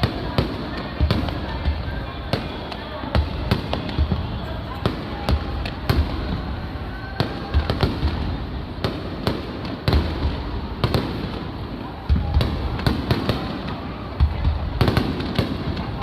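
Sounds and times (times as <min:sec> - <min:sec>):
crowd chatter: 0:00.0 - 0:16.0
fireworks bursting: 0:00.0 - 0:16.0.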